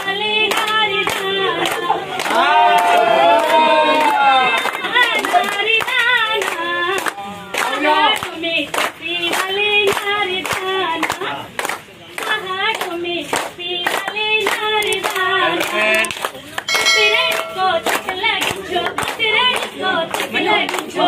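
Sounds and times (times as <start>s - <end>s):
group clapping in rhythm: 0.0s - 21.0s.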